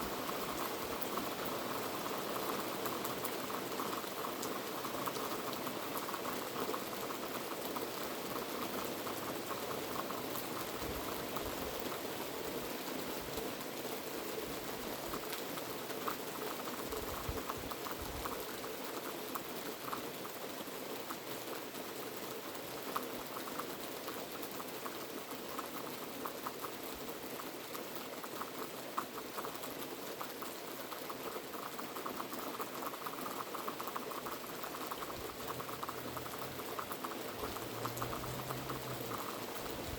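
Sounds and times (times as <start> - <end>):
heavy rain falling: 0.0 - 19.7, 27.0 - 39.9.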